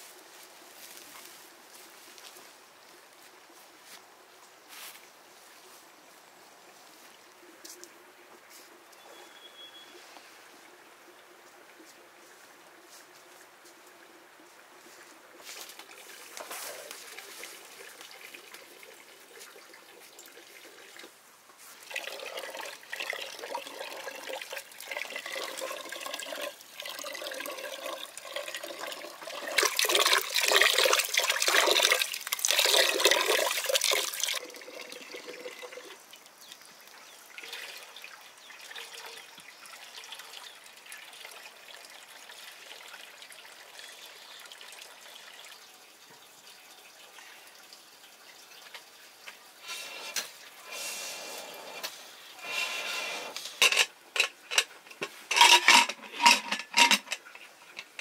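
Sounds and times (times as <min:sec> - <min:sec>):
water trickling and dripping: 0:05.3 - 0:52.5
water pouring and splashing: 0:10.0 - 0:58.0.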